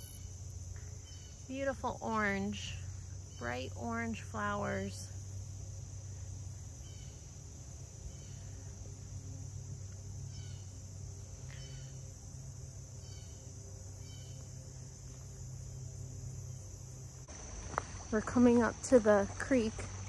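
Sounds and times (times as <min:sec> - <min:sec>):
high insect chorus: 0:00.0 - 0:20.0.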